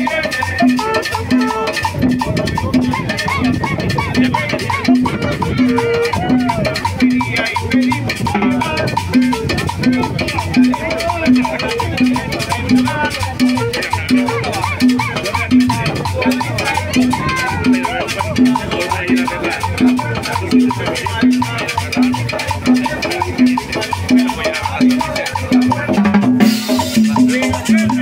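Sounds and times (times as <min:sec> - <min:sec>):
salsa band playing: 0:00.0 - 0:28.0.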